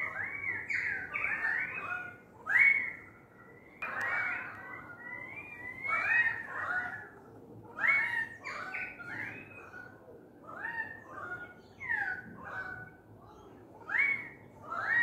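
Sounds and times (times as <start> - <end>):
birds calling with fluty notes: 0.0 - 15.0.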